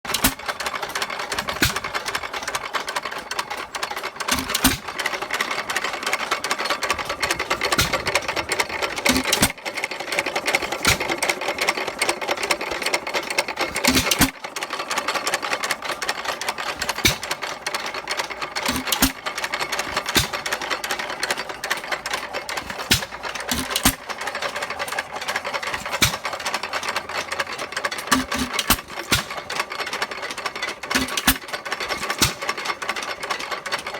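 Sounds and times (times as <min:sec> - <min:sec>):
engine clattering: 0:00.1 - 0:33.9.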